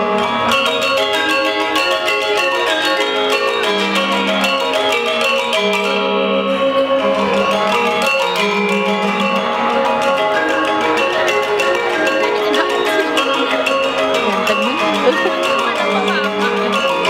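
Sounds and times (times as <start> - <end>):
metallophones playing fast figures: 0.0 - 17.0.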